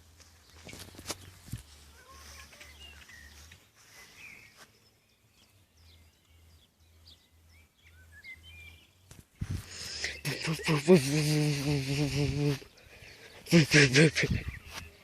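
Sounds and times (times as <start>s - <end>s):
outdoor background noise: 0.0s - 15.0s
faint bird chirps: 0.4s - 15.0s.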